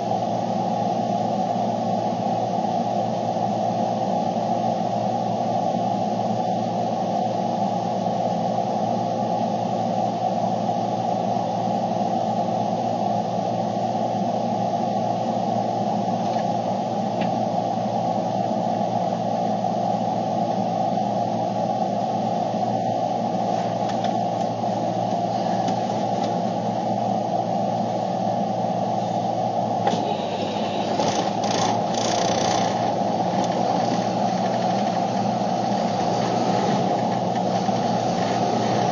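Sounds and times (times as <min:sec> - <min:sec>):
vehicle cabin hum and hiss: 0:00.0 - 0:38.9.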